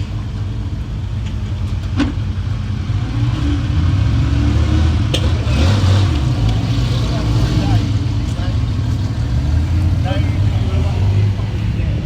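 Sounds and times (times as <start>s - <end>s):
car engine idling: 0.0s - 4.2s, 4.9s - 12.0s.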